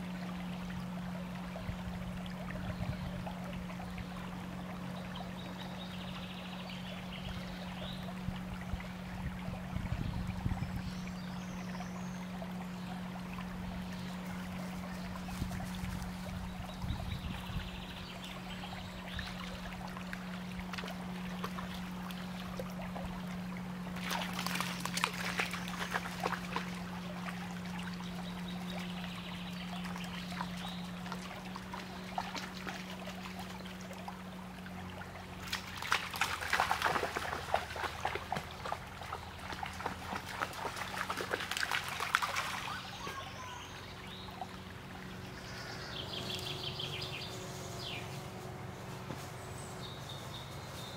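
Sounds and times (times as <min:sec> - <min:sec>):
brook trickling: 0:00.0 - 0:50.9.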